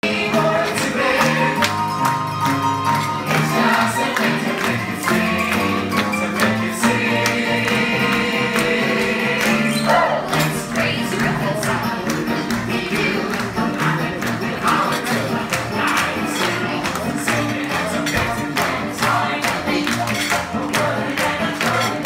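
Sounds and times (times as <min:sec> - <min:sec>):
upbeat music with percussive beat: 0:00.0 - 0:22.0.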